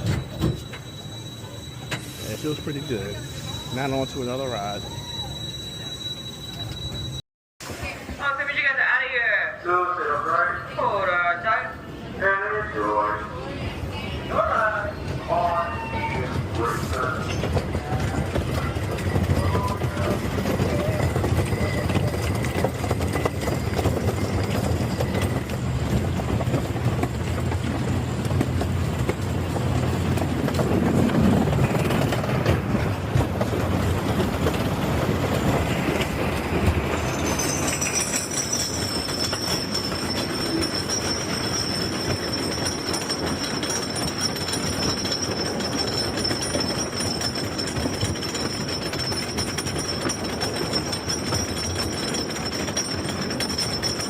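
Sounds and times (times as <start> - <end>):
roller coaster rumbling on track: 0.0 - 54.0.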